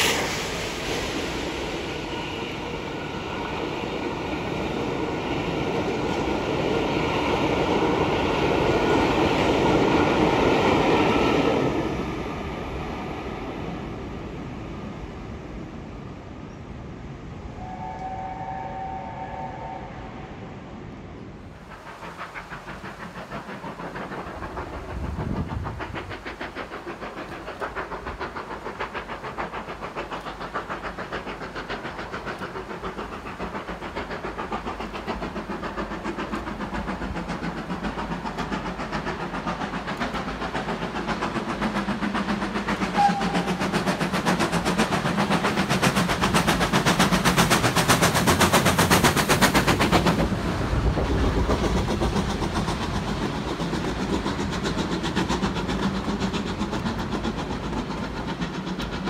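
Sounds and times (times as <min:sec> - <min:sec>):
steam locomotive exhaust beats: 0:00.0 - 0:15.4, 0:17.3 - 0:59.0.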